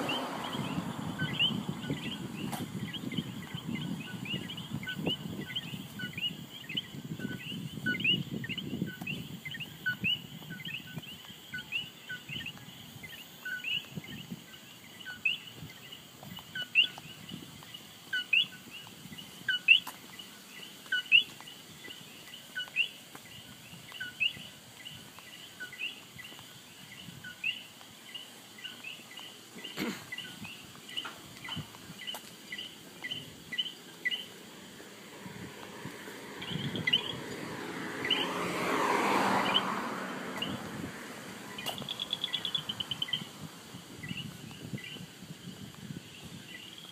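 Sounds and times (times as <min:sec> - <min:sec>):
frogs calling: 0:00.0 - 0:46.9.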